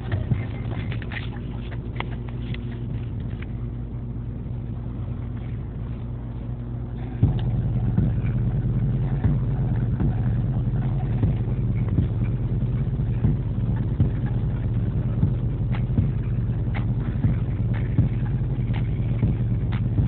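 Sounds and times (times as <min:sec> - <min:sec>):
car engine hum from cabin: 0:00.0 - 0:20.0.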